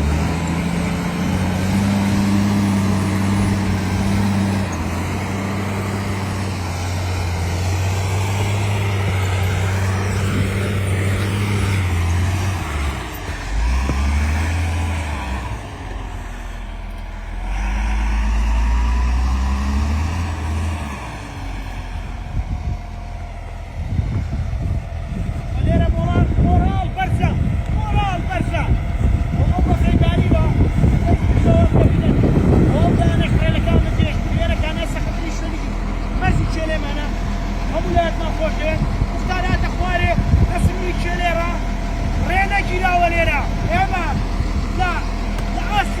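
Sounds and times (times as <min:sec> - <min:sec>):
heavy machine engine under load: 0:00.0 - 0:46.0.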